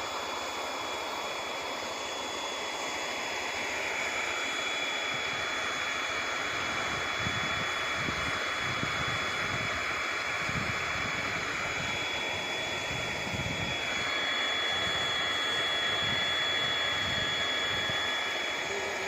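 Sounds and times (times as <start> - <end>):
hot-air blower hissing: 0.0 - 19.0
thin high whine: 0.0 - 19.0.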